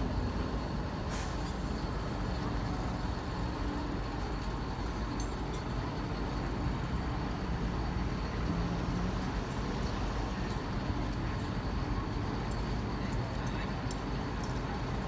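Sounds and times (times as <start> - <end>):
traffic and engine hum: 0.0 - 15.0.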